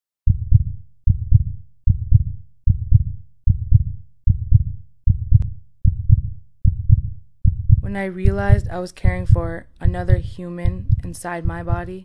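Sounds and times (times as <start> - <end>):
heartbeat thumps: 0.3 - 12.0.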